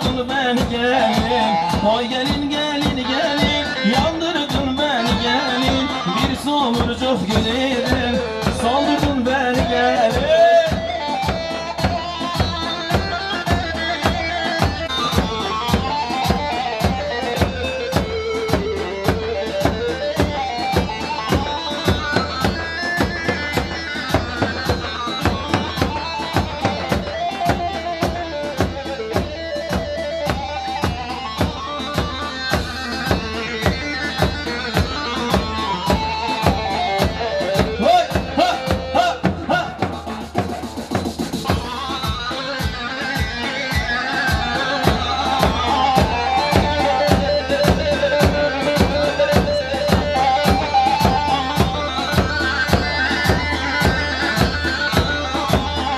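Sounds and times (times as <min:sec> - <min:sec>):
fast drum beat: 0:00.0 - 0:55.9.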